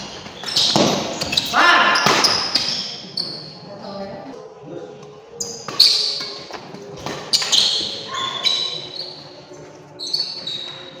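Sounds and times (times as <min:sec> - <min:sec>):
shoes squeaking on court floor: 0:00.0 - 0:03.6, 0:05.4 - 0:11.0.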